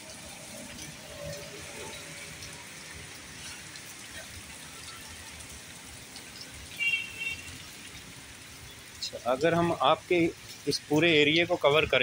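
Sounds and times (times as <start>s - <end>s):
heavy rain on dirt and puddles: 0.0s - 12.0s.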